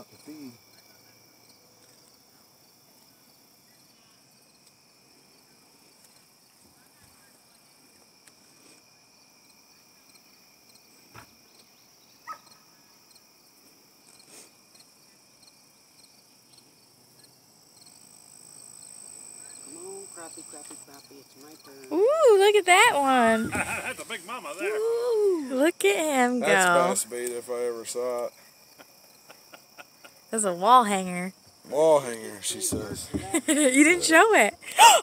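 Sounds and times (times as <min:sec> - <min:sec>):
crickets trilling: 0:00.0 - 0:35.0.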